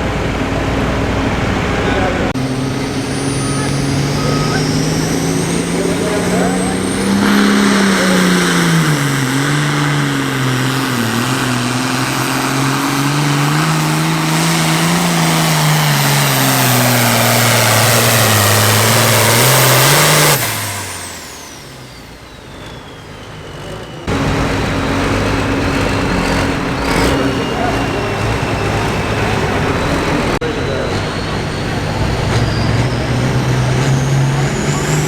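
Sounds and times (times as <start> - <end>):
diesel engine running hard: 0.0 - 35.0
engine idling: 0.0 - 35.0
high turbo whistle: 0.0 - 35.0.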